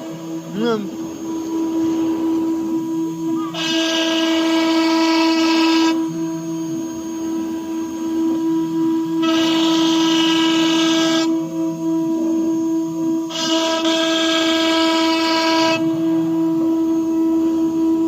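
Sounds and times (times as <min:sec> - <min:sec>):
harsh whine with hiss: 0:00.0 - 0:18.0
router spindle high whine: 0:00.0 - 0:18.0.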